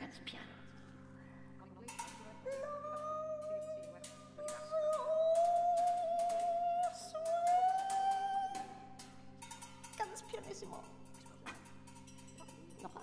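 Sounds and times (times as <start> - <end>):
percussion clicks and taps: 1.8 - 13.0.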